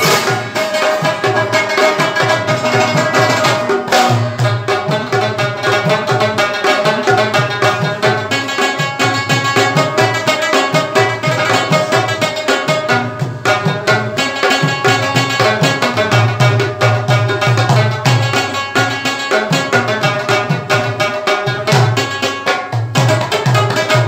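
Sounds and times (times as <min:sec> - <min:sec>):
rubab plucked melody: 0:00.0 - 0:24.0.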